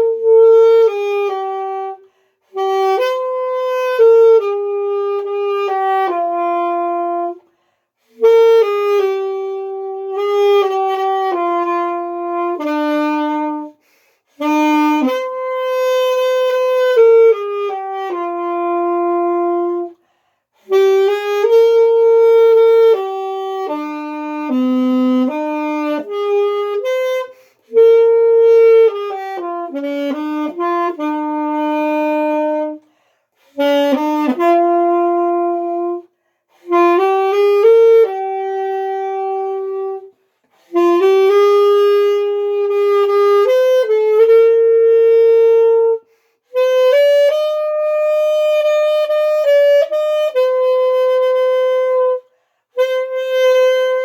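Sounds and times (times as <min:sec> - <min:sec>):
solo saxophone slow melody: 0:00.0 - 0:54.0.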